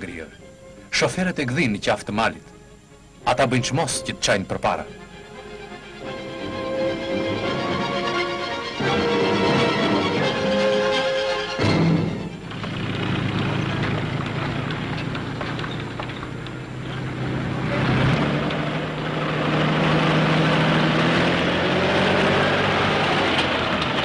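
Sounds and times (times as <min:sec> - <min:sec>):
truck engine droning: 0:02.8 - 0:24.0.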